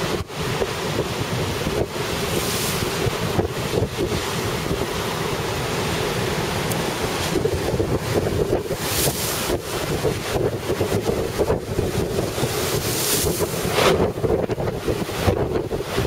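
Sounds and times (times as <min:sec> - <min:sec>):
surf crashing on beach: 0:00.0 - 0:16.0
wind buffeting microphone: 0:00.0 - 0:16.0.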